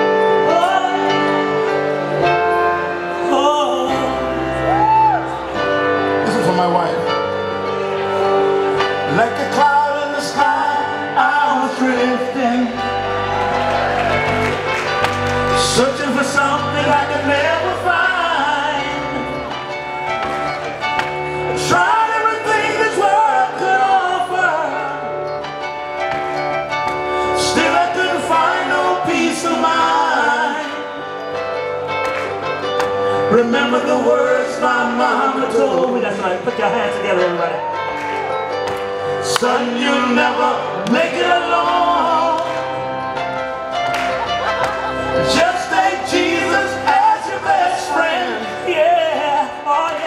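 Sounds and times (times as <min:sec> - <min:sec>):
electric keyboard: 0:00.0 - 0:50.0.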